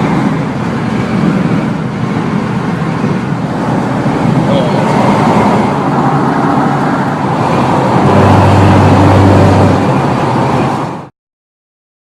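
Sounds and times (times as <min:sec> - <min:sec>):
road noise inside car: 0:00.0 - 0:11.1.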